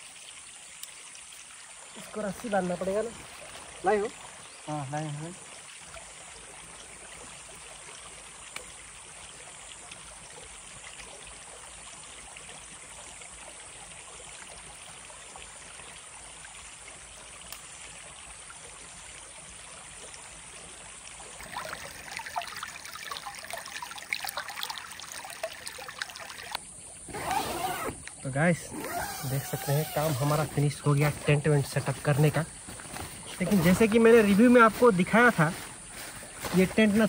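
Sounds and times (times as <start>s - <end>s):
creek water running: 0.0s - 37.0s.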